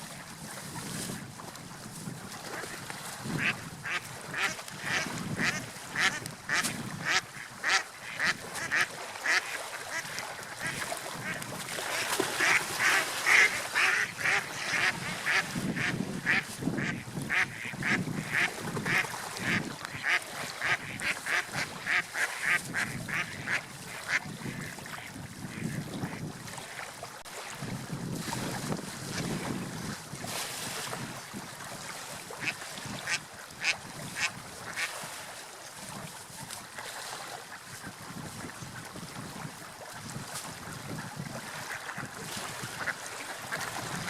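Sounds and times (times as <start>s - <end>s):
sea waves washing: 0.0s - 44.0s.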